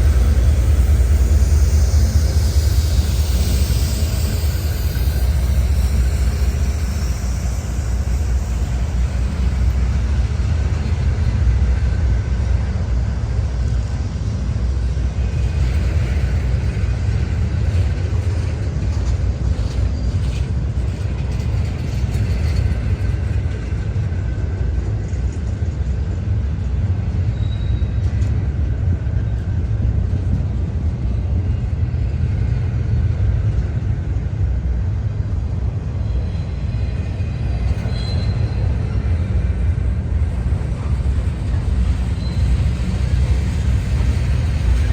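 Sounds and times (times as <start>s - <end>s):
freight train wheels rumbling on rails: 0.0s - 44.9s.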